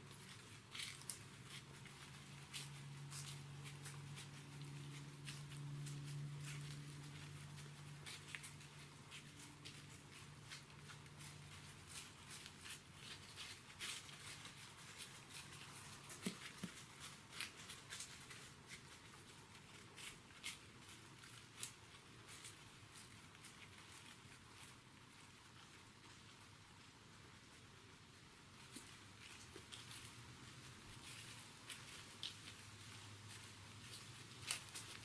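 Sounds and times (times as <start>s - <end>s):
hooves crunching dry leaves: 0.0s - 26.3s, 28.5s - 35.0s.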